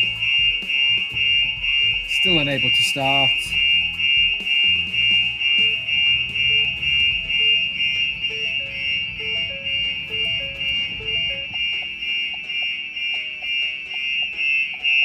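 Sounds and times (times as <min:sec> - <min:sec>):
background music: 0:00.0 - 0:15.0
high-pitched car alarm siren: 0:00.0 - 0:15.0.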